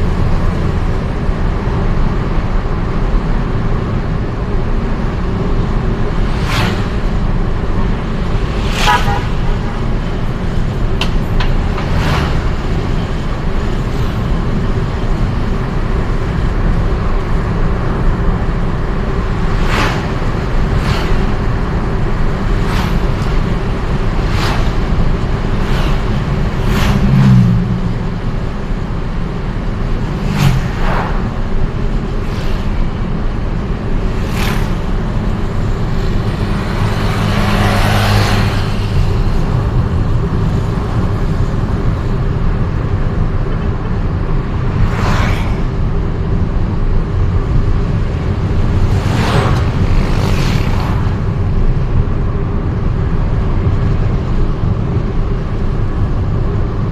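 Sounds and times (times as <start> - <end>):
vehicle engine and road noise: 0.0 - 56.9
vehicles passing: 0.0 - 56.9.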